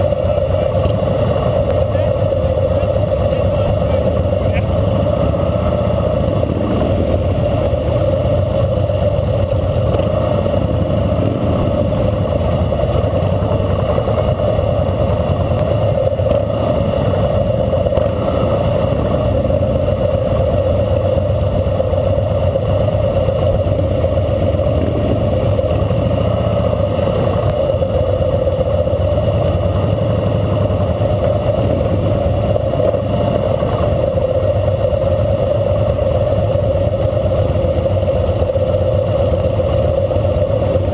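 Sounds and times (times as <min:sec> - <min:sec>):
motorcycle engine running: 0:00.0 - 0:40.9
other motorcycles riding: 0:00.0 - 0:40.9.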